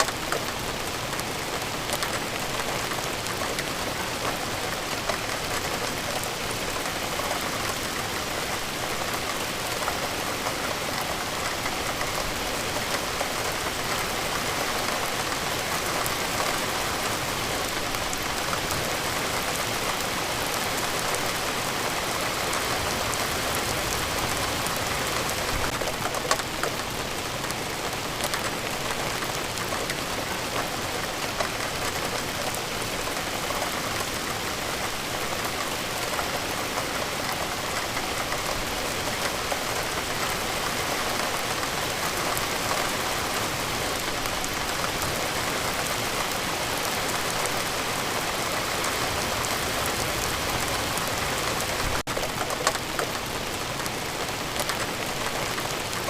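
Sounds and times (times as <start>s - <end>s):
rain on a hard surface: 0.0s - 56.0s.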